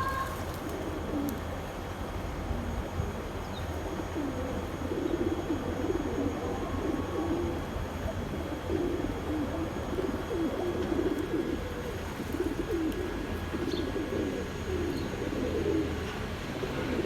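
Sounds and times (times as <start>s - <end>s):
pigeons cooing: 0.0s - 1.8s, 3.2s - 17.0s.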